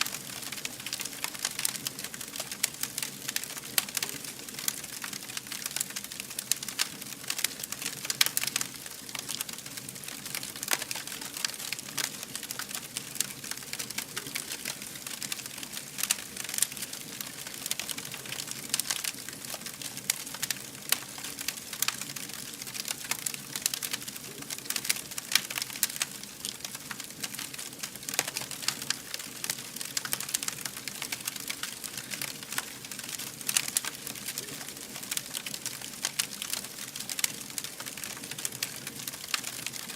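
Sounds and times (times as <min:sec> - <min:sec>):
steady fire hiss: 0:00.0 - 0:39.9
wood fire crackling: 0:00.0 - 0:39.9.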